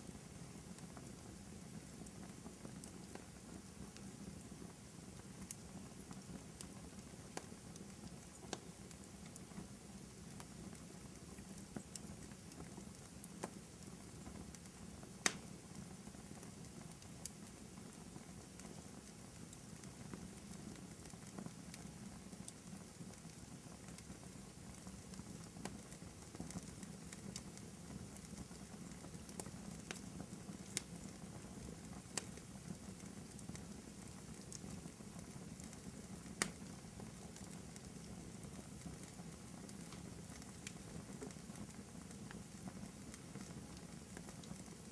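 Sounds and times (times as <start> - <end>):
fire hiss and rumble: 0.0 - 44.9
wood fire crackling and popping: 0.0 - 44.9.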